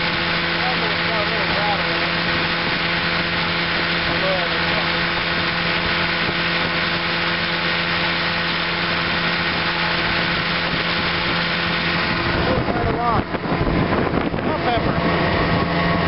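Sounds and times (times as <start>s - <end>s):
outboard motor running: 0.0s - 16.0s
water rushing from wake: 0.0s - 16.0s.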